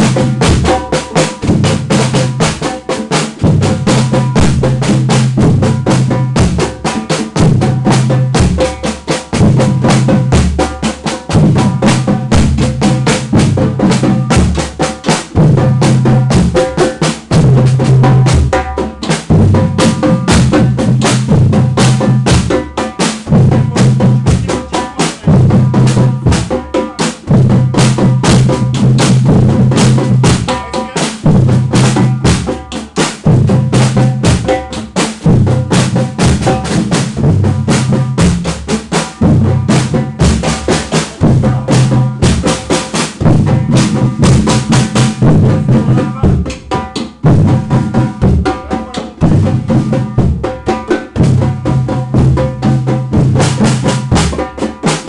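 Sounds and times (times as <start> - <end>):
stick strokes on snare drums: 0.0 - 51.3
deep bass drums: 0.0 - 54.6.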